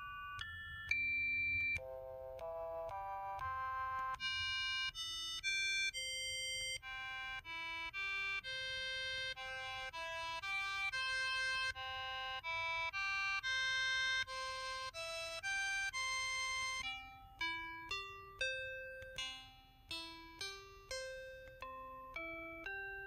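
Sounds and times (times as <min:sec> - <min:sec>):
phone keypad tones melody: 0:00.0 - 0:23.0.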